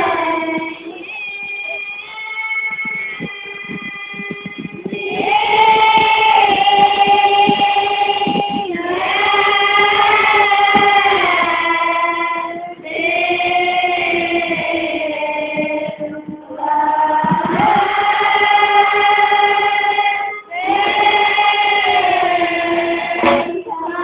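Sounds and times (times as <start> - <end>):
children's choir singing: 0.0 - 24.0.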